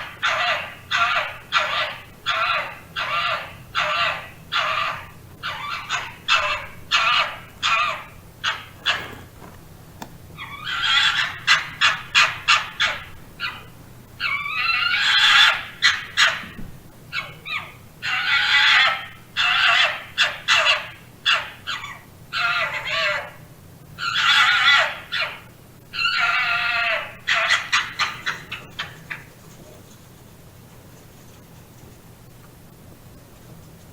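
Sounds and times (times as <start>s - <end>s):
fox barking and calling: 0.0s - 9.5s, 10.4s - 29.4s.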